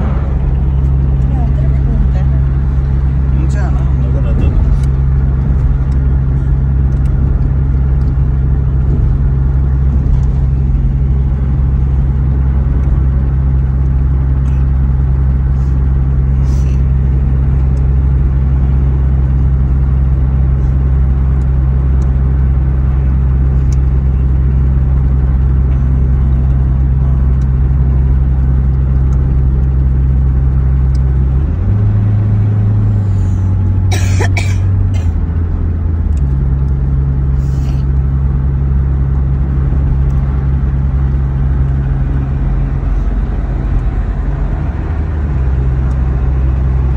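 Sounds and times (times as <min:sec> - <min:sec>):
road noise: 0:00.0 - 0:46.9
van engine drone: 0:00.0 - 0:46.9.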